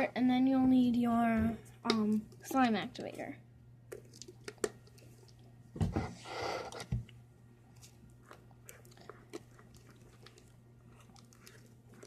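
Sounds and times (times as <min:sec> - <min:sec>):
slime squelching in a bowl: 0:00.0 - 0:12.0.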